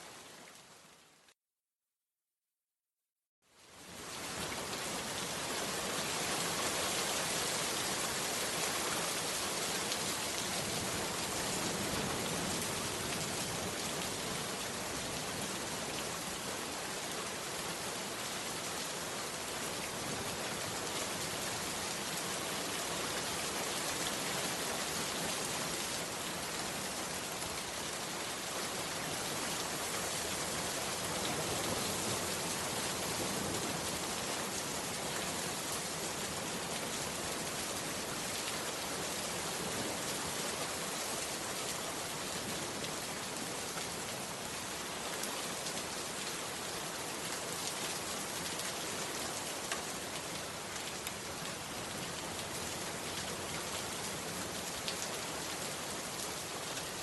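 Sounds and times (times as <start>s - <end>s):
heavy rain falling: 3.8s - 57.0s.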